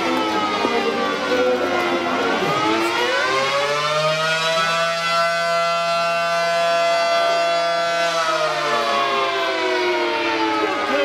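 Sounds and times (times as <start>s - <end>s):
air-raid siren wailing: 0.0s - 11.0s.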